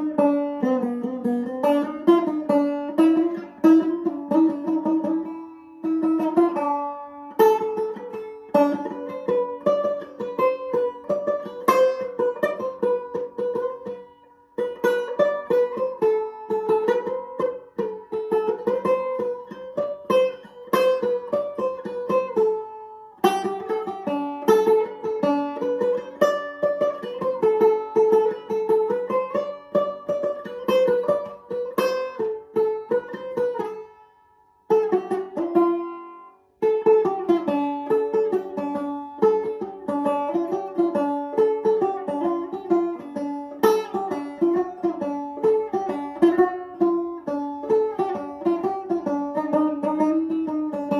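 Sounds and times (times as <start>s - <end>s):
banjo picking: 0.0s - 50.9s.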